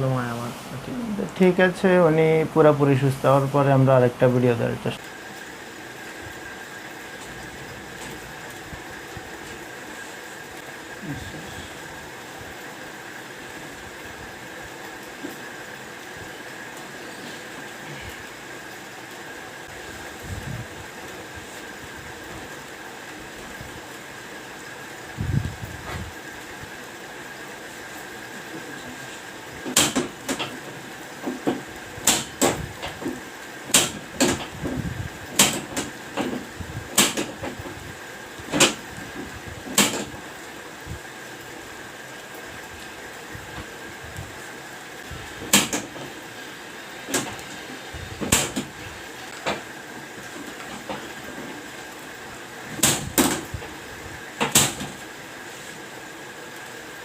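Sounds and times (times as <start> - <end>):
background hum: 0.0 - 55.7.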